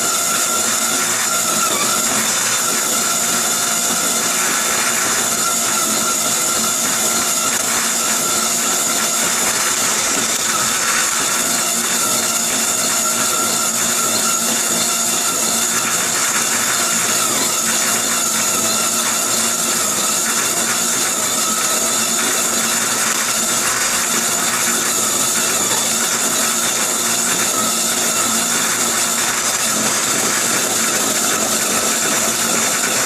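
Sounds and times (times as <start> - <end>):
table saw cutting wood: 0.0 - 33.0.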